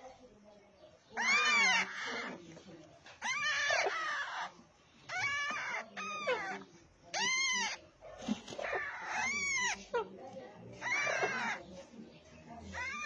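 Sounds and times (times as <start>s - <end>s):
parakeets squawking: 1.1s - 13.0s.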